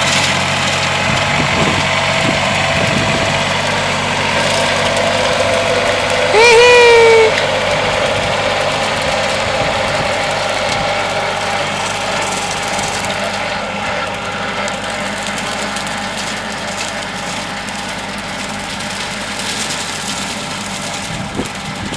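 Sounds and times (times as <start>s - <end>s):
tractor engine droning: 0.0s - 21.9s.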